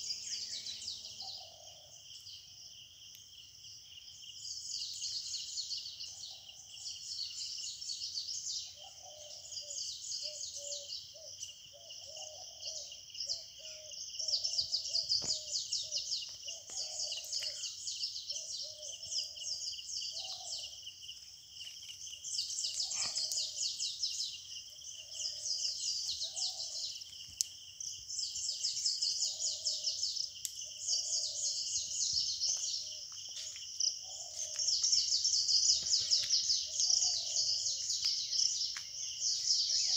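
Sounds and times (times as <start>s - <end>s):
bird calls: 0.0s - 2.5s, 4.1s - 39.9s.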